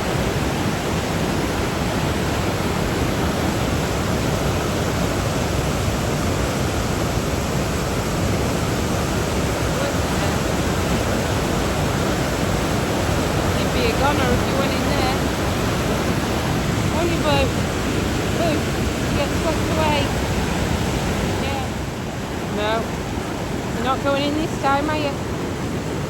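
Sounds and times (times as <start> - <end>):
river rushing through waterfalls: 0.0 - 26.0.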